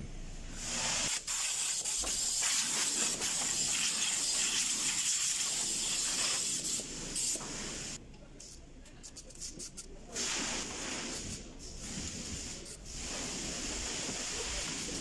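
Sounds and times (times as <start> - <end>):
compressed air hissing from blow gun: 0.5 - 8.0, 10.1 - 15.0.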